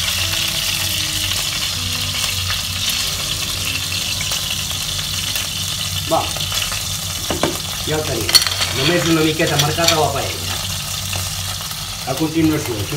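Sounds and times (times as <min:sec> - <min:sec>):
fish frying in oil: 0:00.0 - 0:12.9.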